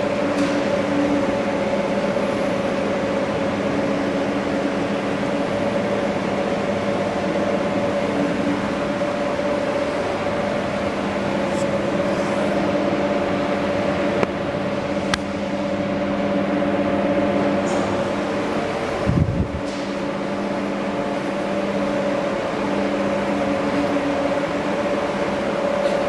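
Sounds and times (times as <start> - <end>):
hydraulic pump humming: 0.0 - 26.0.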